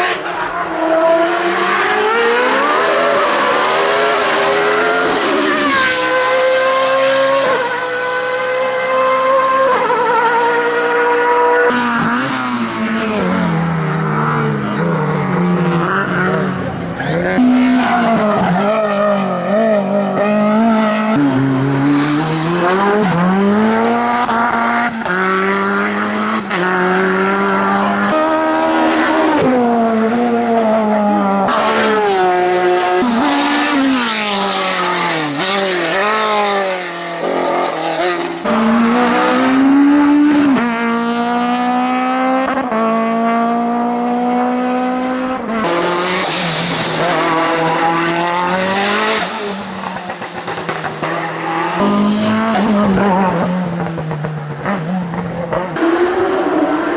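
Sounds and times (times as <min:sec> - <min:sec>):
race car engines at full throttle: 0:00.0 - 0:56.9.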